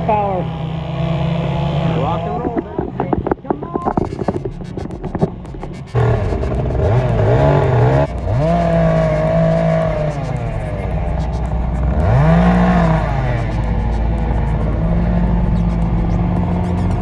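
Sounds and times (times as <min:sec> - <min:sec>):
chainsaw engine revving: 0:00.0 - 0:02.9, 0:05.5 - 0:17.0.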